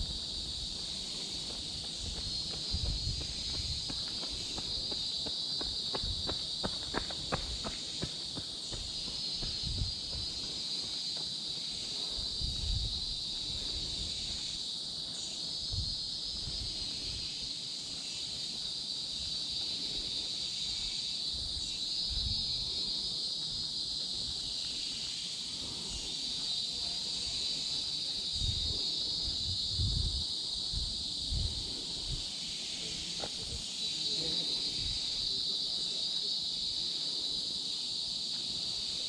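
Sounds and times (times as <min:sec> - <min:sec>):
forest insects droning: 0:00.0 - 0:39.0.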